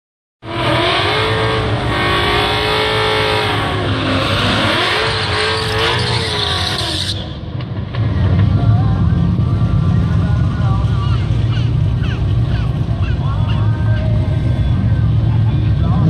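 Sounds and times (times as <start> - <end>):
car engine revving: 0.4 - 16.0.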